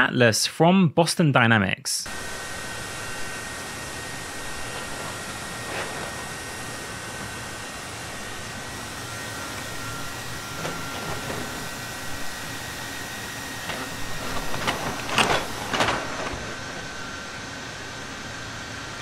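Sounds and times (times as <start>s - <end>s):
robot motors humming: 2.1s - 19.0s.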